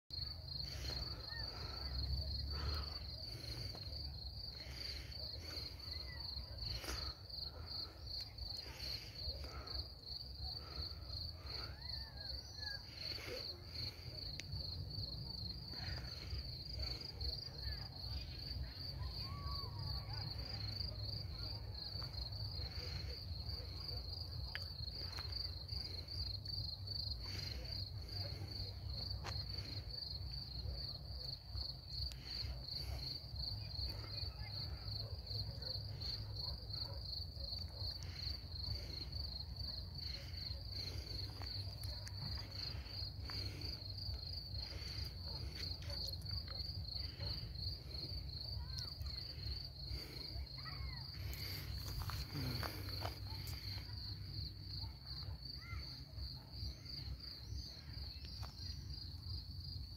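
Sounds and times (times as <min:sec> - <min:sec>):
cricket chirping: 0:00.1 - 0:59.9.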